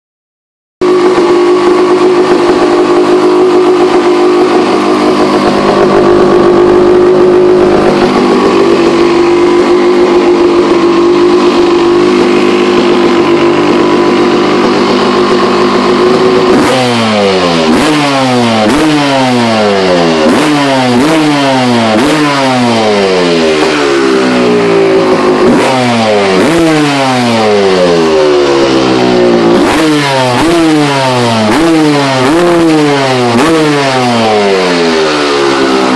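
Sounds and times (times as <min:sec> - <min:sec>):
two-stroke motorcycle engine revving: 0:00.8 - 0:35.9.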